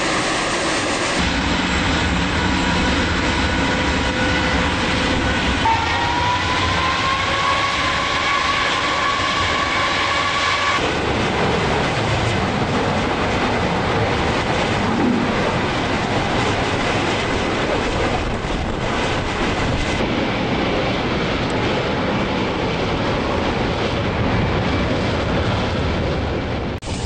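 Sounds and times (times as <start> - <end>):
jet engine running at high power: 0.0 - 27.0.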